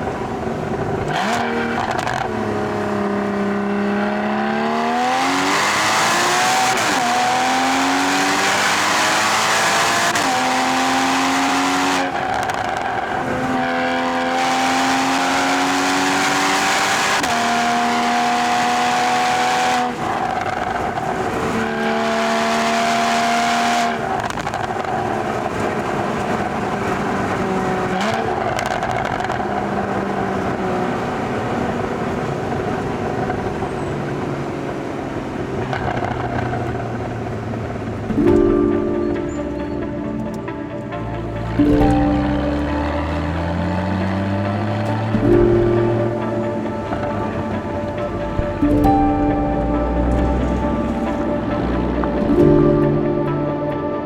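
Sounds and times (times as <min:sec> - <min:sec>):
car engine accelerating through gears: 0:00.0 - 0:54.0
tyre and road noise: 0:00.0 - 0:54.0.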